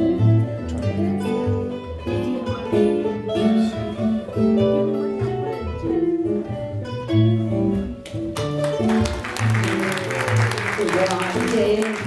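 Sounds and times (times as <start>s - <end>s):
acoustic guitars playing folk: 0.0s - 12.0s.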